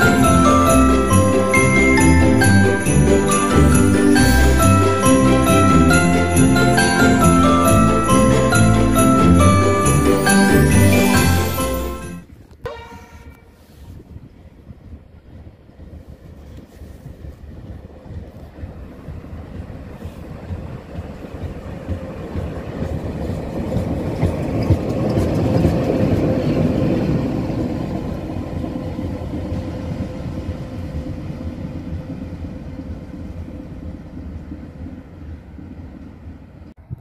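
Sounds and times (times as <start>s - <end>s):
train passing rumble: 0.0s - 37.0s.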